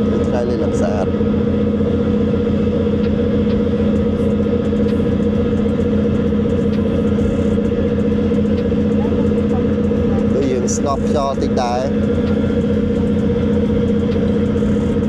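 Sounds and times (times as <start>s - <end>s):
ship diesel engines droning: 0.0s - 15.0s.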